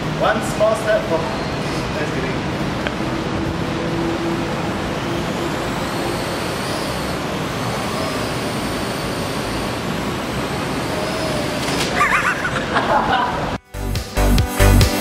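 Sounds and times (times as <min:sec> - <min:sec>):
quadcopter rotors whirring: 0:00.0 - 0:13.6.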